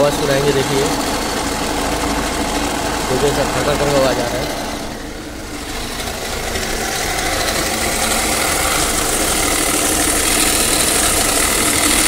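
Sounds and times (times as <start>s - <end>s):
diesel engine idling: 0.0s - 12.0s
engine belt rattling: 0.0s - 12.0s.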